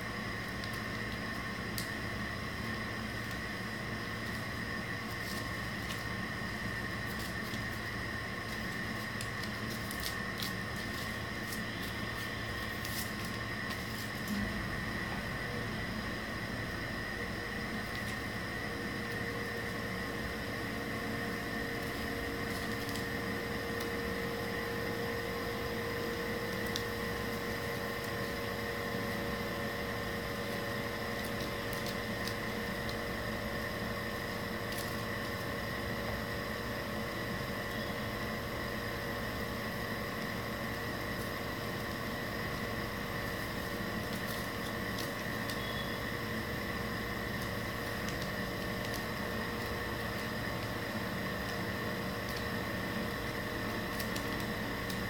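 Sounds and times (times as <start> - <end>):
appliance humming: 0.0 - 55.0
paper clicks: 0.1 - 14.6, 17.2 - 36.0, 39.2 - 55.0.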